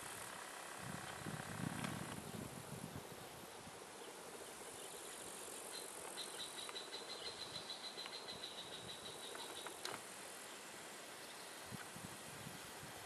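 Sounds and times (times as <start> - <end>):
insect stridulating buzz: 0.0 - 13.0
outdoor hiss: 0.0 - 13.0.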